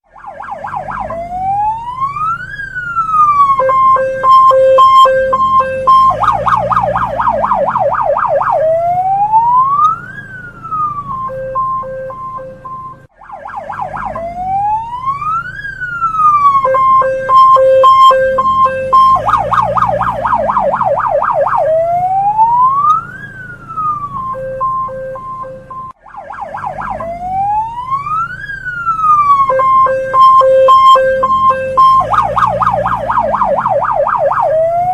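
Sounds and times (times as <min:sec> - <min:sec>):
police car siren: 0:00.0 - 0:34.9.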